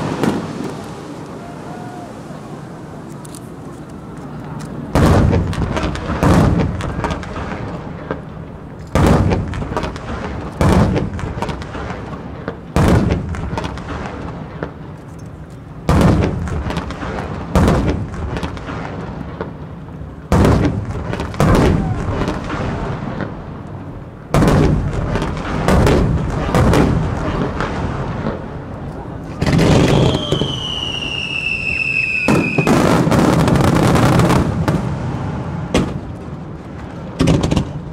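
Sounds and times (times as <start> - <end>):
firework shells booming: 0.0 - 0.8, 4.9 - 14.9, 15.8 - 36.4, 37.0 - 37.9.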